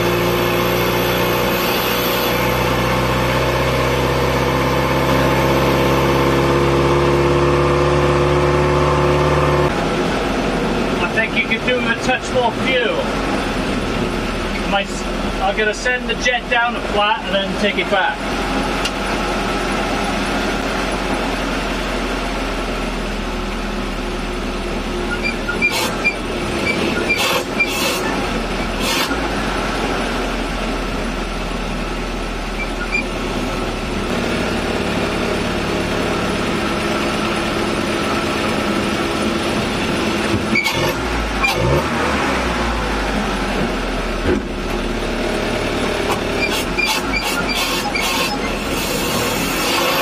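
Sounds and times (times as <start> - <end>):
van engine running: 0.0 - 50.0.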